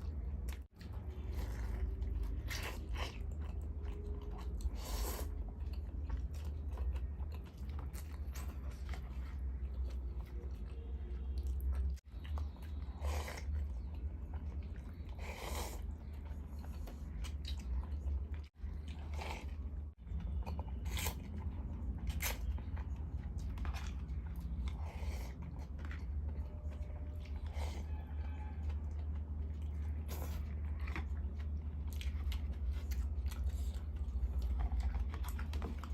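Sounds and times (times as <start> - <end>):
person chewing food: 0.0 - 35.9.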